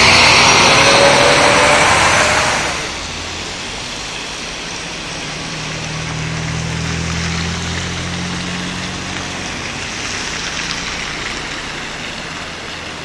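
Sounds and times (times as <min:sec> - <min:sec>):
low engine hum: 0:00.0 - 0:13.0
truck passing on wet road: 0:00.0 - 0:13.0
wet road rushing noise: 0:00.0 - 0:13.0.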